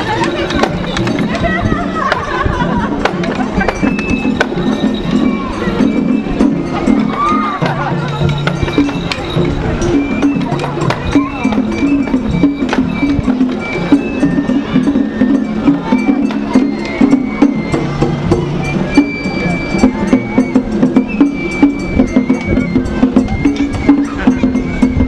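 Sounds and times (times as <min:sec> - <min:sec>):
high held melody notes: 0:00.0 - 0:25.0
taiko drums beating: 0:00.0 - 0:25.0.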